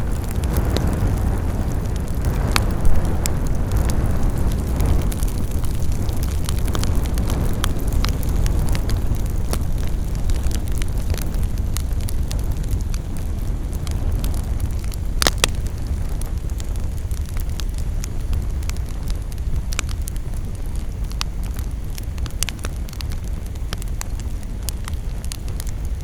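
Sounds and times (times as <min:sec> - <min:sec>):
campfire flames rushing: 0:00.0 - 0:26.0
wood crackling and popping: 0:00.0 - 0:26.0.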